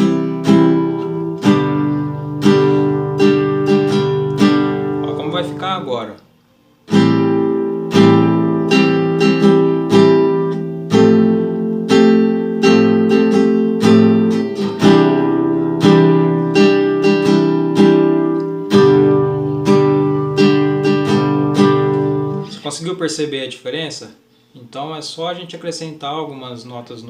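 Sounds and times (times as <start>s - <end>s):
acoustic guitar strumming: 0.0s - 22.9s.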